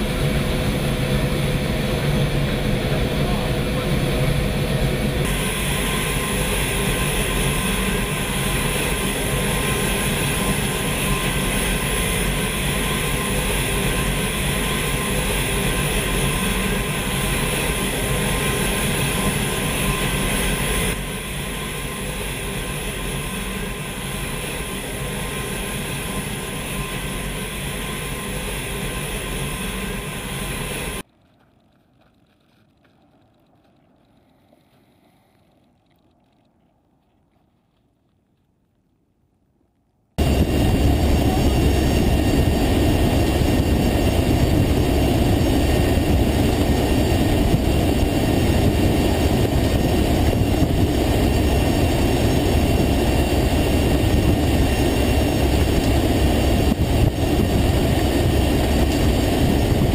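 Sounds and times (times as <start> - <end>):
engine whine: 0.0 - 31.1, 40.2 - 59.9
turboprop engine drone: 0.0 - 31.1, 40.2 - 59.9.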